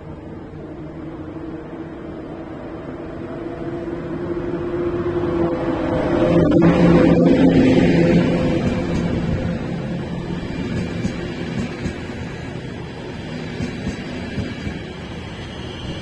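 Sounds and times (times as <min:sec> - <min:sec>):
electric locomotive humming: 0:00.0 - 0:16.0
train rumble: 0:00.0 - 0:16.0.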